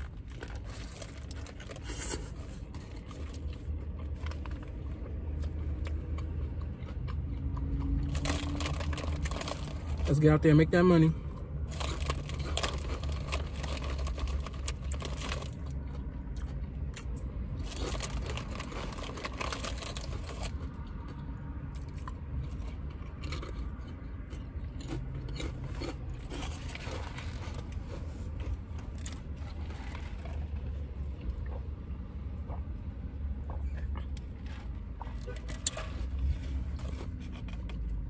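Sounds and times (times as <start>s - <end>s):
person chewing and crunching food: 0.0s - 10.2s, 11.2s - 38.0s.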